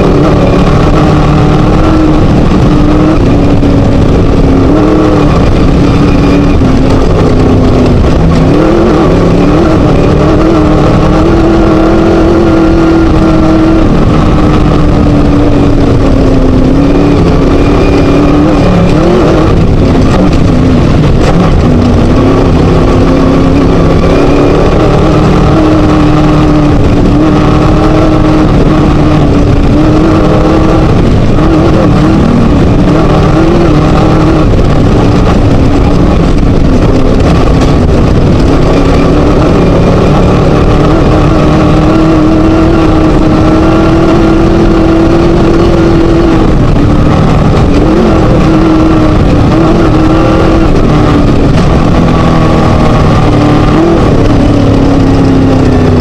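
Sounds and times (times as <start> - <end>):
race buggy engine at hard throttle: 0.0 - 56.0
road noise and rattle: 0.0 - 56.0.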